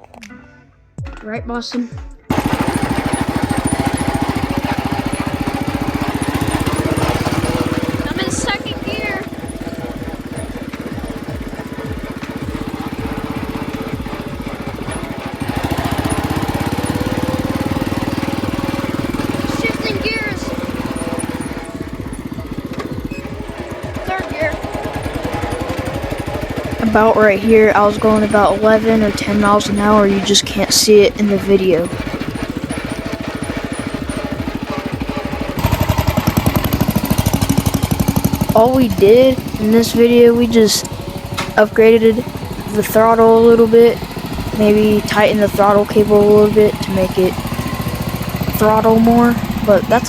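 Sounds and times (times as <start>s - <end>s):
small tractor engine running: 2.3s - 50.0s.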